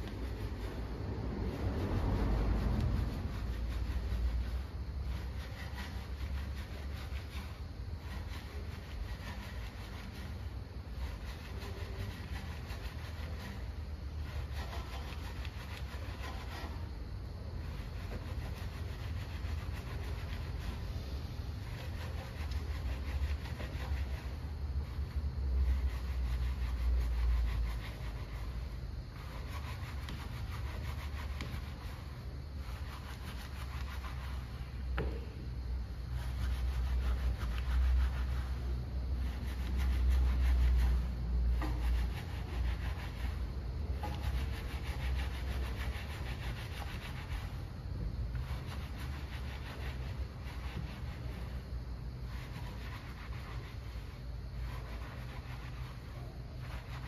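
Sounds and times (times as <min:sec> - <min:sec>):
brushes scrubbing wet wheel: 0:00.0 - 0:57.0
steady low hum: 0:00.0 - 0:57.0.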